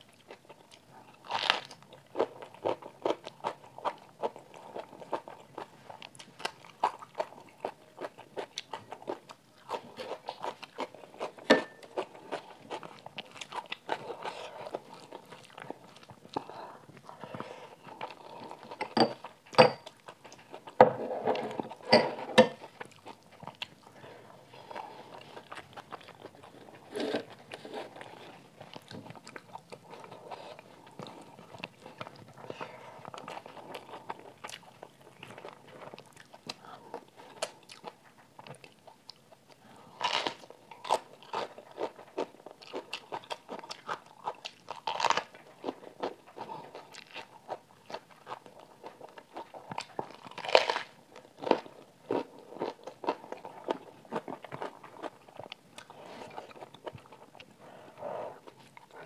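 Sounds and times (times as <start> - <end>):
chewing and biting food: 0.0 - 20.8, 22.6 - 59.0.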